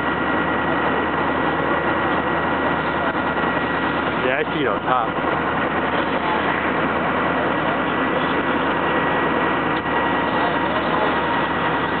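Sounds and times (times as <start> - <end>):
fire engine running: 0.0 - 12.0
thin steady whine: 0.0 - 12.0.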